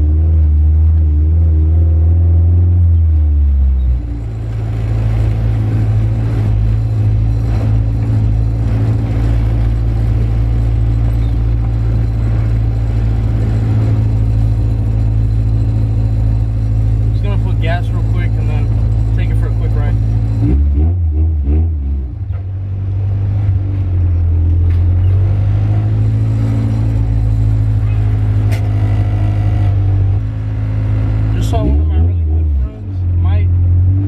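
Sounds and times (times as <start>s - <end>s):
car engine droning: 0.0s - 34.0s
road noise: 0.0s - 34.0s.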